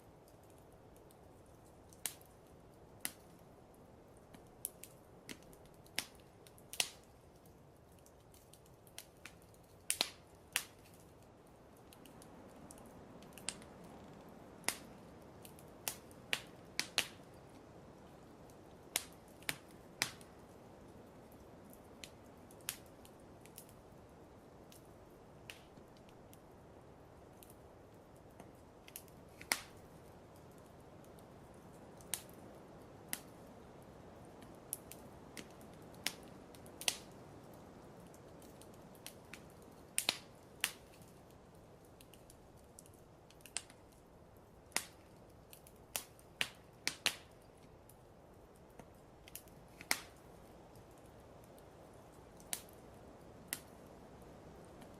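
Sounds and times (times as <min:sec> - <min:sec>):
soft steady fire hiss: 0:00.0 - 0:54.9
wood fire crackling and popping: 0:00.0 - 0:54.9.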